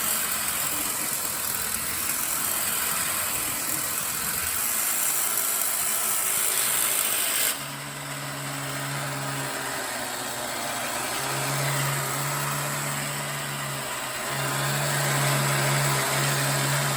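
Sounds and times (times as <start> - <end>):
toy airplane mechanism whirring: 0.0 - 16.9.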